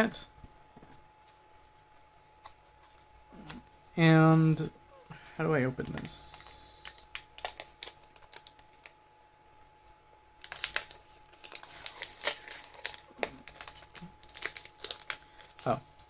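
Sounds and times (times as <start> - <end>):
hands handling plastic packaging: 1.2 - 9.0, 10.4 - 16.0.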